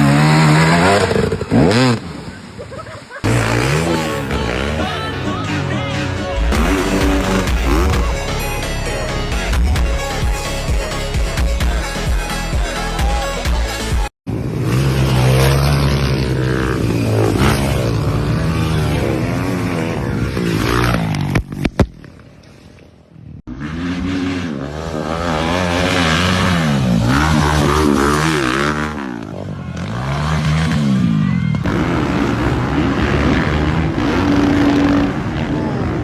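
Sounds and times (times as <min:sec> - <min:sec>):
dirt bike engines revving: 0:00.0 - 0:21.4, 0:23.5 - 0:36.0.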